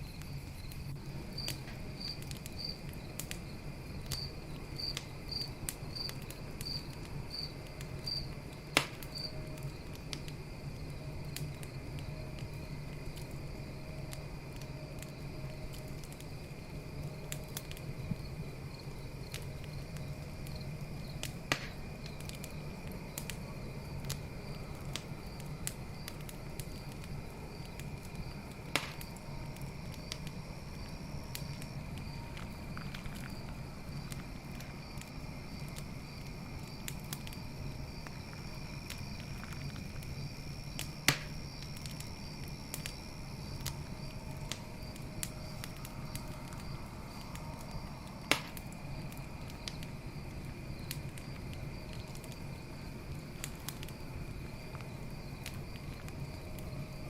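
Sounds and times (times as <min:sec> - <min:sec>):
campfire crackling: 0:00.0 - 0:57.0
night insects trilling: 0:00.0 - 0:57.0
campfire sharp pops: 0:00.1 - 0:56.8.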